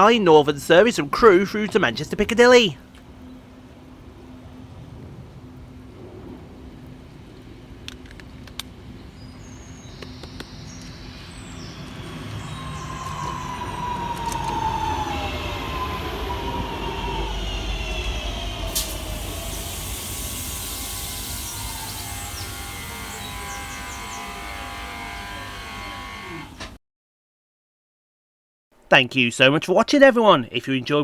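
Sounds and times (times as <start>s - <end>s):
train motors whining: 0.0s - 26.8s
wheels rumbling on rail: 0.0s - 26.8s.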